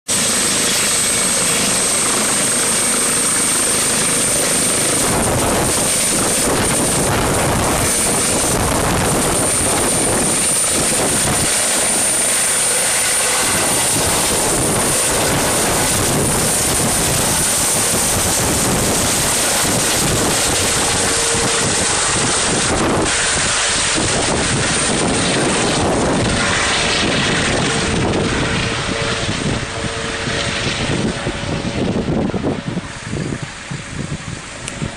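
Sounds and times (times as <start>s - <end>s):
helicopter rotor chop: 0.1s - 34.9s
high turbine whine: 0.1s - 34.9s.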